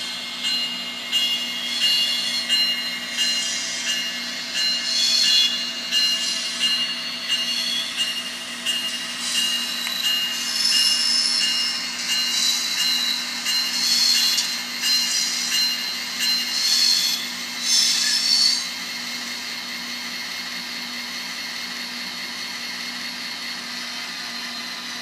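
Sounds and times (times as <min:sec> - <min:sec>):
model locomotive diesel drone: 0:00.0 - 0:25.0.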